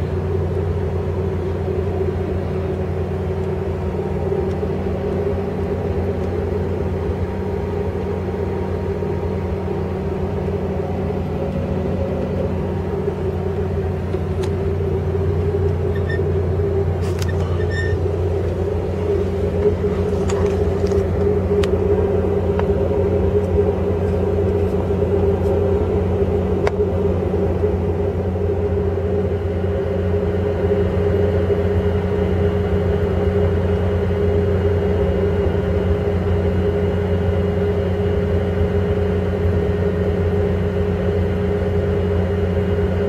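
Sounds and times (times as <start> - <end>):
train rumble and hum: 0.0 - 43.0.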